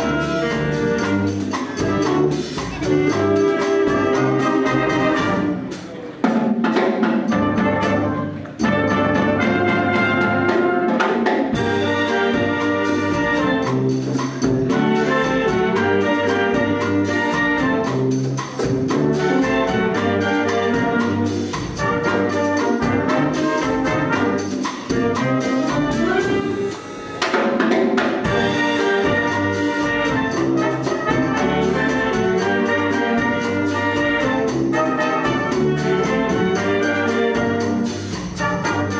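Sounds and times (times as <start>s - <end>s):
concert wind band playing: 0.0s - 38.9s
drum kit beat: 0.0s - 38.9s.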